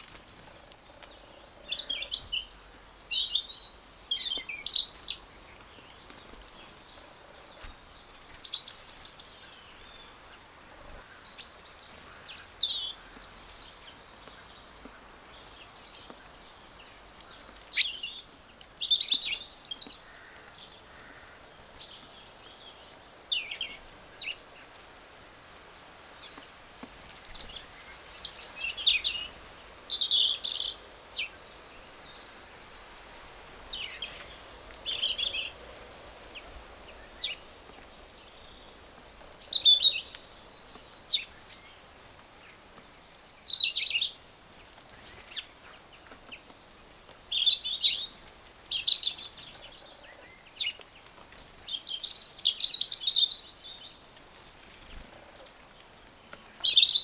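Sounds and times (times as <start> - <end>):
small songbirds singing: 0.0 - 57.0.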